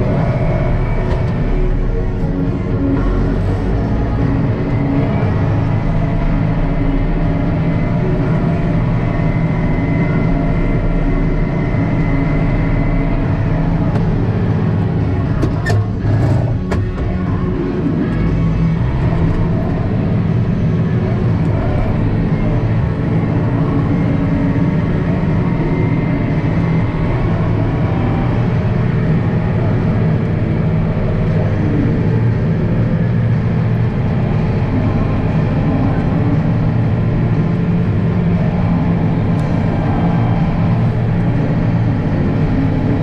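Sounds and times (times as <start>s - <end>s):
tractor diesel engine droning: 0.0s - 43.0s.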